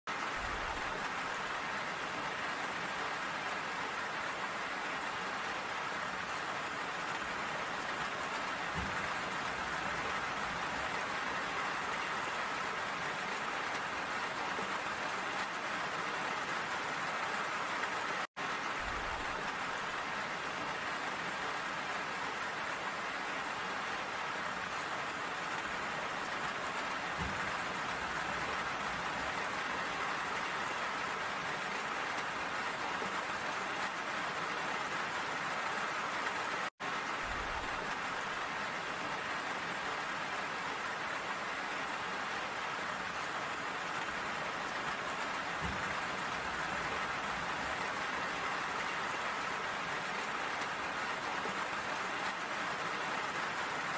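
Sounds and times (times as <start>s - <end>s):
steady rain falling: 0.1s - 53.9s.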